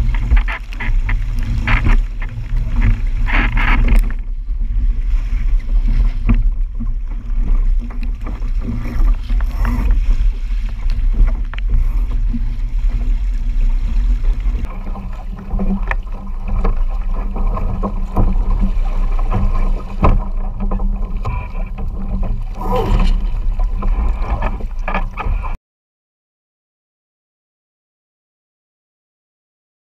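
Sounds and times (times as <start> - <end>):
boat knocks and clicks: 0.0 - 25.6
water rushing against hull: 0.0 - 25.6
wind buffeting microphone: 0.0 - 25.6.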